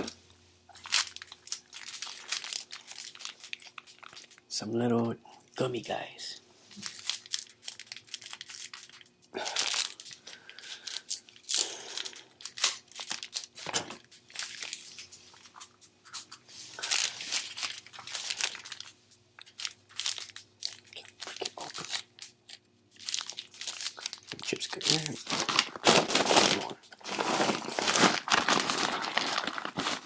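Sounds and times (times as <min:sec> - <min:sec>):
plastic wrapper crinkling and tearing: 0:00.0 - 0:04.6, 0:06.7 - 0:30.0.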